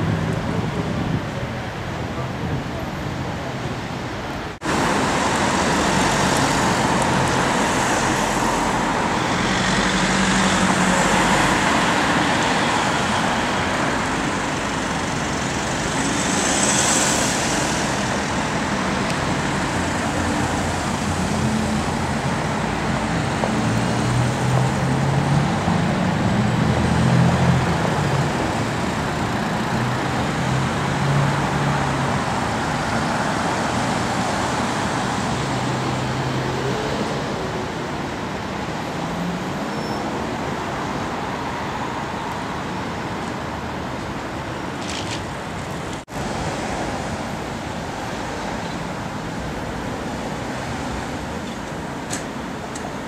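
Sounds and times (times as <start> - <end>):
passing cars: 0.0 - 53.0.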